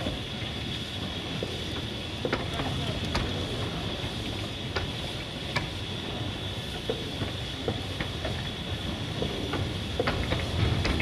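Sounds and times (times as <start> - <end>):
wheels clicking on rails: 0.0 - 11.0.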